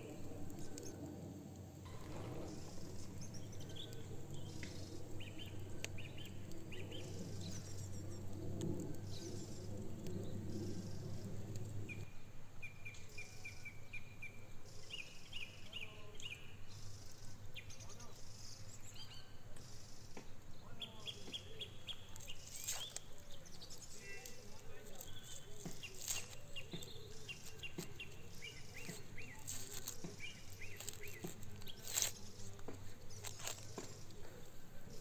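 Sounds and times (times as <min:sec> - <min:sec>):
small birds chirping: 0:00.0 - 0:01.2, 0:01.8 - 0:35.0
steady low background noise: 0:00.0 - 0:35.0.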